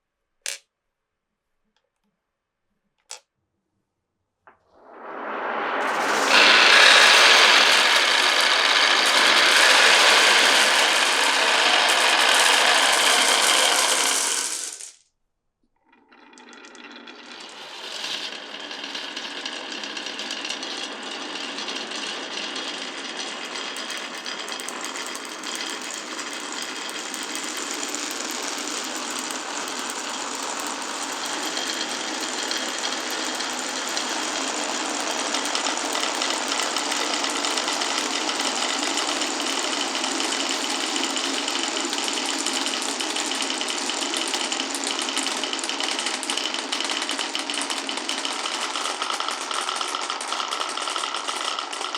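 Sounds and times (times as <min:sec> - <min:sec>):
marbles rattling down wooden run: 0:05.8 - 0:15.0, 0:15.9 - 0:51.9.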